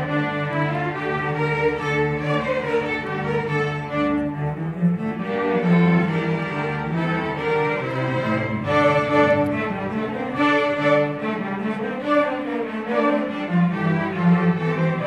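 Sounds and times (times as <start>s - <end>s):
low cello line: 0.0s - 15.0s
string orchestra playing: 0.0s - 15.0s.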